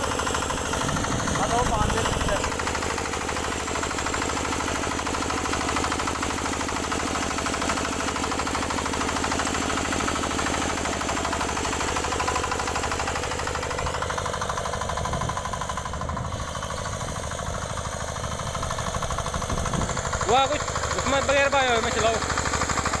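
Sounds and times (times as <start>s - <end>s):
cultivator engine running: 0.0s - 23.0s.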